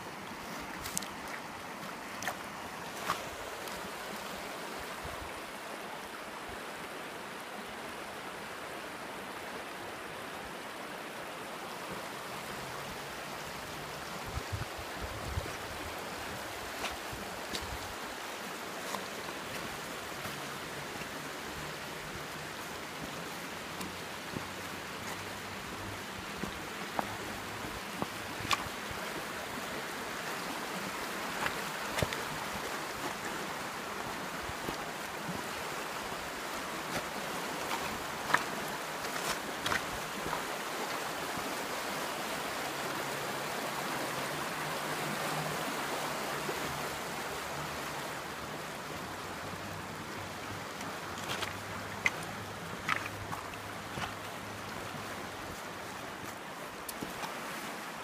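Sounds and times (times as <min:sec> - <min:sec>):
river rapids rushing over cobbles: 0:00.0 - 0:58.0.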